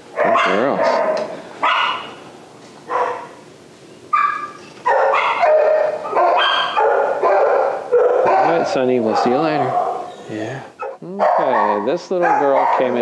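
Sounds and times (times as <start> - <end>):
dog barking: 0.1 - 2.2, 2.9 - 3.4, 4.1 - 10.1, 10.8 - 13.0.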